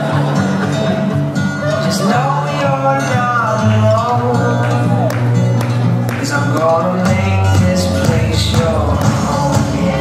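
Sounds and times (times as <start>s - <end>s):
bass line: 0.0s - 10.0s
guitar accompaniment: 0.0s - 10.0s
person singing: 0.5s - 5.3s, 6.1s - 10.0s.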